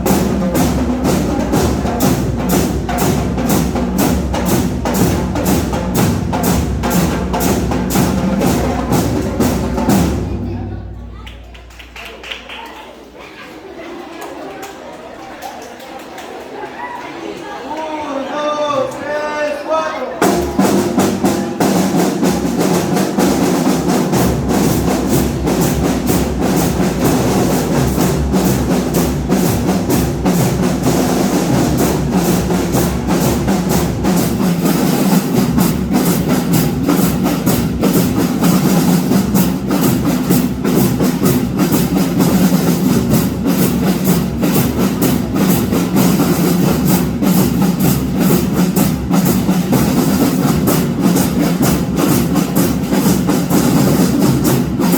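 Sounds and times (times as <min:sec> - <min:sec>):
snare and bass drums beating: 0:00.0 - 0:10.7, 0:20.2 - 0:54.9
marching band playing: 0:00.0 - 0:11.9, 0:20.2 - 0:54.9.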